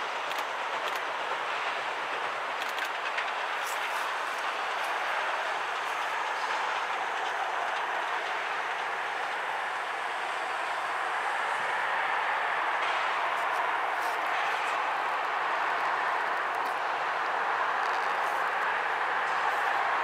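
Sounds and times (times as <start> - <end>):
train rolling noise: 0.0 - 20.0.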